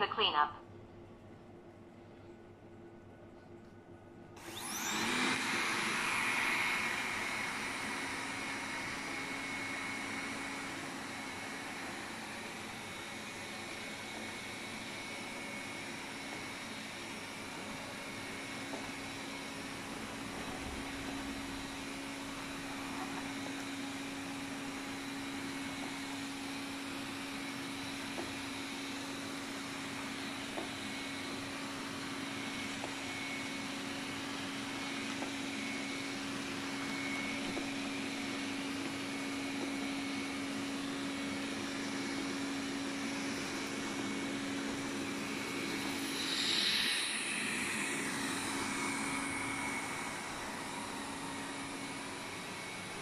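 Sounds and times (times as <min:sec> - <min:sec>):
robot vacuum humming: 0:04.4 - 0:53.0.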